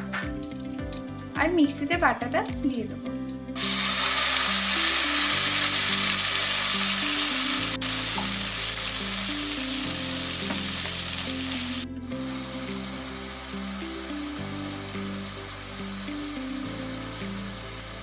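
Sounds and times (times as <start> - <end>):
slow background music: 0.0 - 18.0
paste sizzling in hot oil: 3.6 - 18.0.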